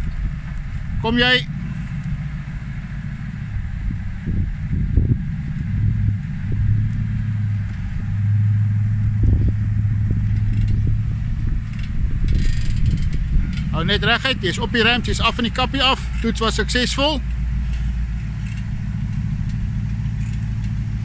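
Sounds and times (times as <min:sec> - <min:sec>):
truck engine at low revs: 0:00.0 - 0:21.0.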